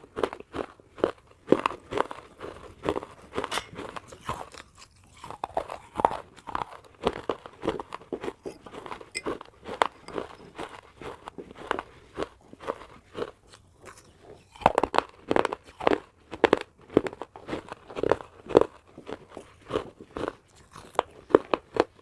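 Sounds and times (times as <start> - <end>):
person chewing crunchy clay: 0.0 - 22.0.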